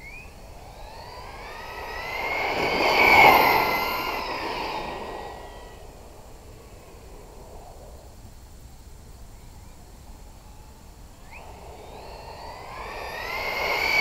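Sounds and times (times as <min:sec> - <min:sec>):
rc car electric motor whining: 0:00.0 - 0:07.8, 0:09.7 - 0:14.0.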